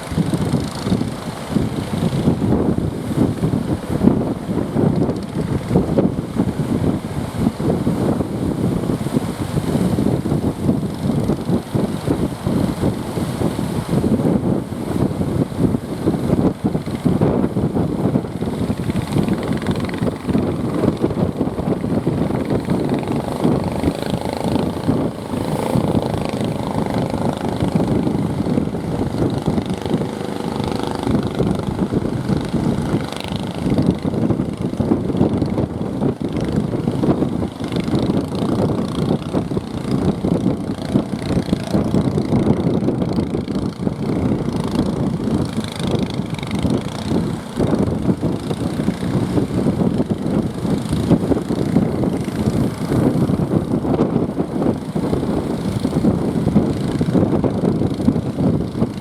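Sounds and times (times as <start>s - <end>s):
boat engine running: 0.0s - 59.0s
heavy surf: 0.0s - 59.0s
wind noise: 0.0s - 59.0s.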